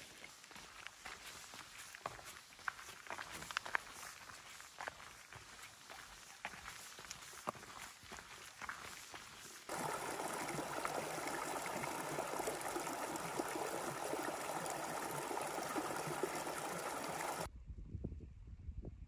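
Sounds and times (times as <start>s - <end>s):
footsteps crunching on stony trail: 0.0s - 17.4s
stream running over rocks: 0.2s - 17.5s.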